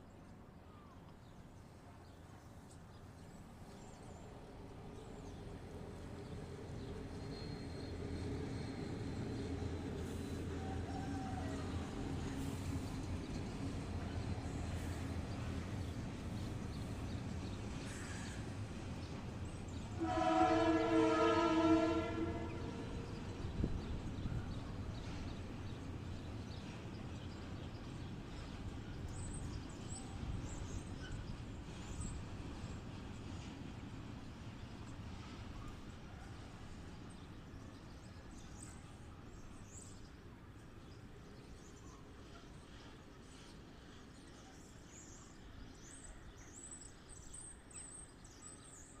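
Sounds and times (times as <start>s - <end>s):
faint outdoor background noise: 0.0s - 49.0s
train rumbling past: 1.4s - 49.0s.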